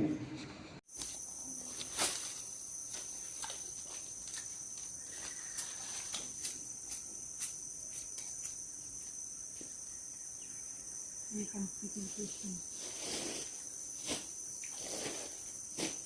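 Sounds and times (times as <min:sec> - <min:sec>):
insects shrilling: 0:00.9 - 0:16.0.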